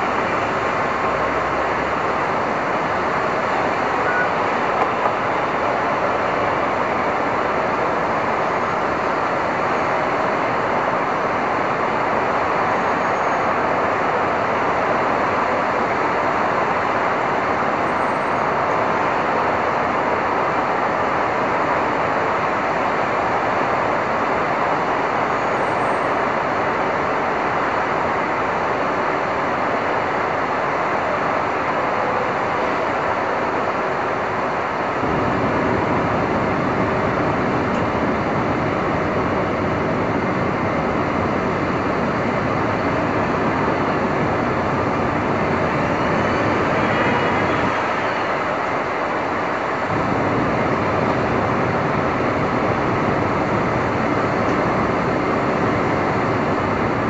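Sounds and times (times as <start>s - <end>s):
car engines: 0.0s - 57.0s
rain: 0.0s - 57.0s
tyres on wet road: 0.0s - 57.0s.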